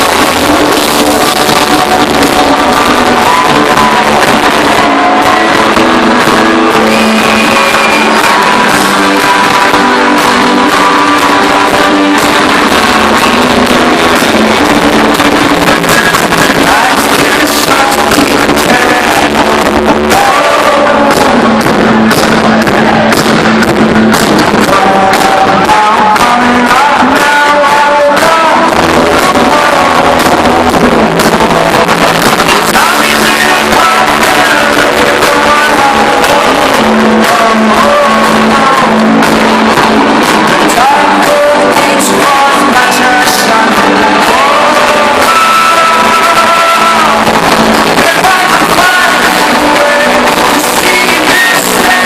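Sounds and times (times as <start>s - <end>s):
lead singer singing: 0.0s - 52.0s
live rock band playing: 0.0s - 52.0s.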